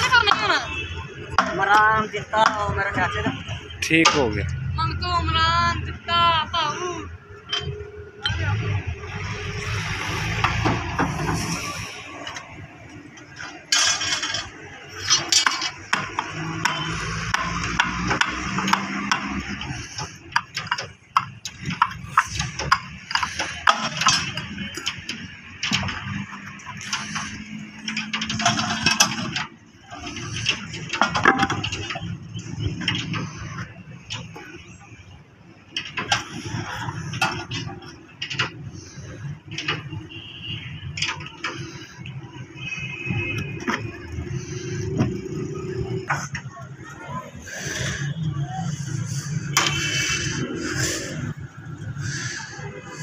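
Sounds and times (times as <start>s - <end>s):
metallic knocks and scrapes: 7.4s - 46.6s, 47.3s - 53.0s.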